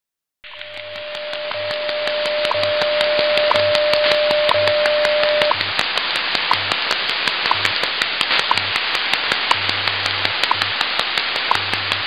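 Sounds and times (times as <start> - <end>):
radio static hiss: 0.4 - 12.0
low hum pulses: 0.5 - 10.8
short ticks: 0.5 - 12.0.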